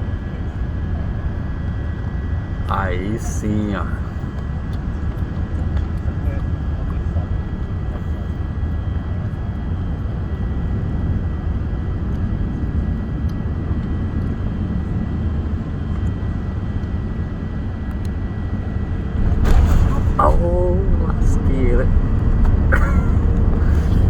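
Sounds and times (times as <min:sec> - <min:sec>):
jet cabin noise: 0:00.0 - 0:24.0.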